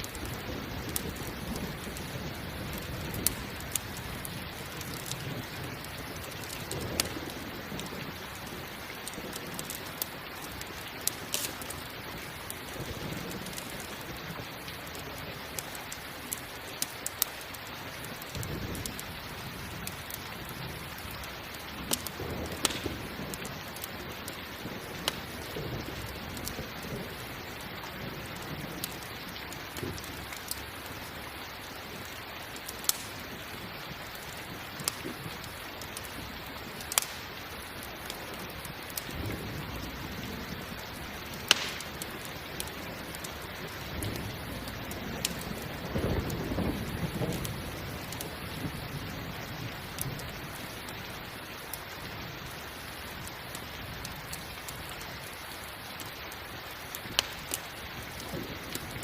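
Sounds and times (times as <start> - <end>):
campfire crackling and popping: 0.0 - 59.0
rain hissing: 0.0 - 59.0.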